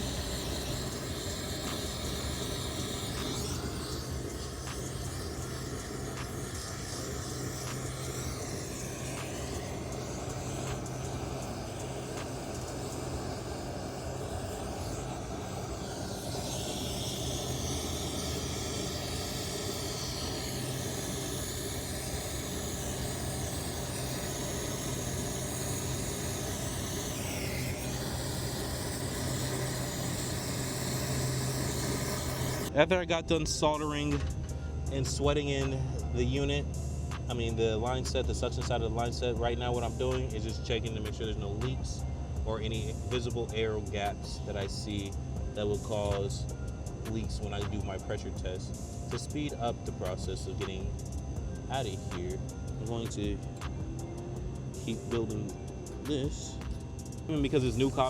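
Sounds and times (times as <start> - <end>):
constant low hum: 0.0 - 58.0
torch flame hissing: 0.0 - 58.0.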